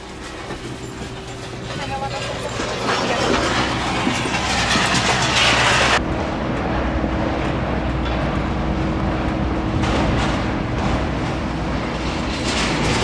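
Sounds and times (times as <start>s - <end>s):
airliner cabin engine noise: 0.0s - 13.0s.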